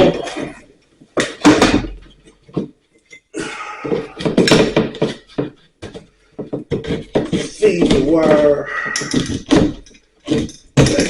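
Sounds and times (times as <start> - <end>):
clattering and scraping: 0.0 - 11.0.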